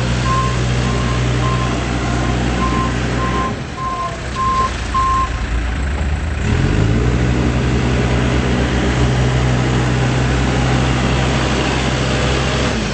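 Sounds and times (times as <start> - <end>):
diesel engine revving: 0.0 - 12.9.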